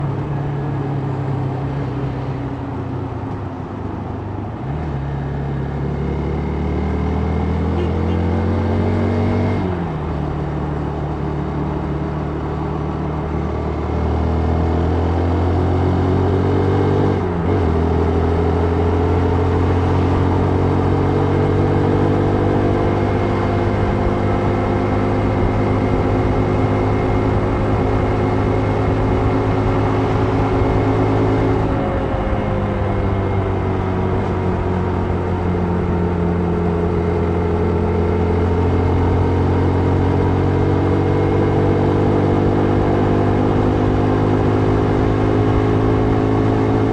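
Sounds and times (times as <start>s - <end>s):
wind and road noise: 0.0s - 46.9s
vehicle engine revving: 4.6s - 46.9s.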